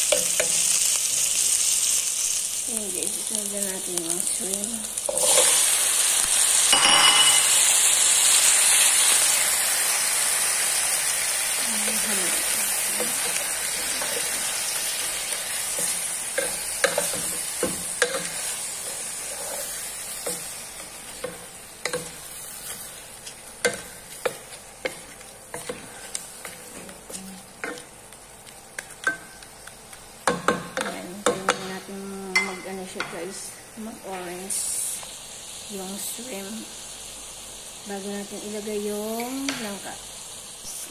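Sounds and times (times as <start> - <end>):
shrimp sizzling in a pot: 0.0 - 40.9.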